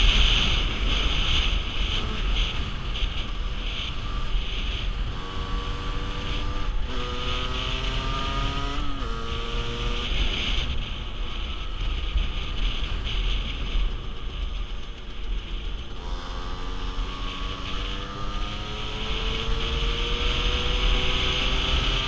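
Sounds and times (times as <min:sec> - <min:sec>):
motorcycle engine accelerating: 0:00.0 - 0:22.0
wind rumble on microphone: 0:00.0 - 0:22.0.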